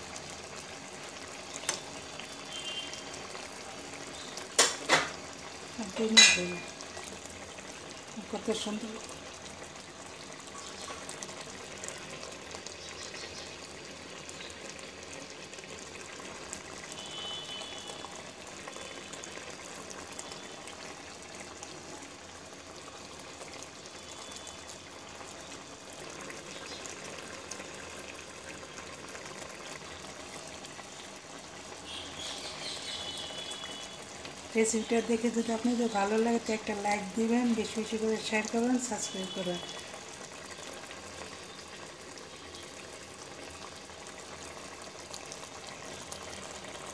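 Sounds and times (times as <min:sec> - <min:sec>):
curry bubbling in a pot: 0:00.0 - 0:46.9.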